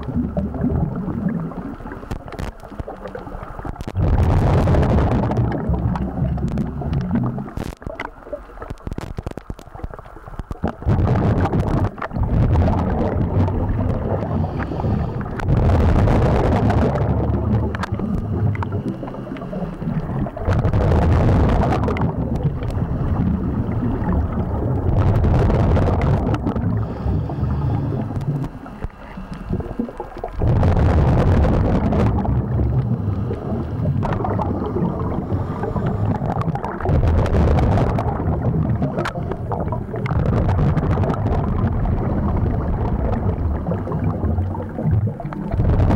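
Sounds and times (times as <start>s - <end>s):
underwater exhaled bubbles: 0.0s - 45.9s.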